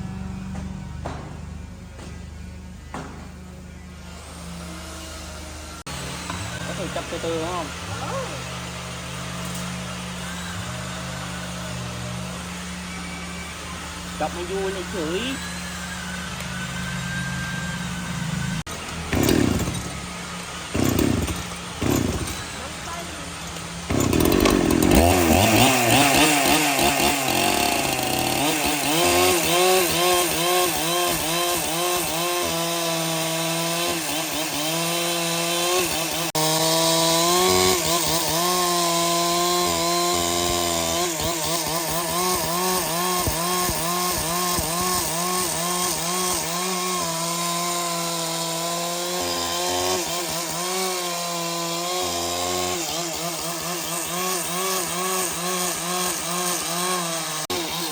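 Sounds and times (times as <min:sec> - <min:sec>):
power saw cutting log: 0:04.0 - 0:57.9.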